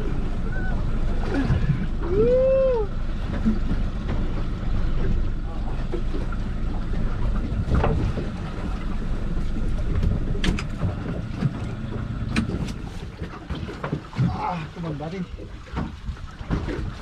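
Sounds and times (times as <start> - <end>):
small boat rumbling on rough water: 0.0 - 17.0
wind: 0.0 - 17.0.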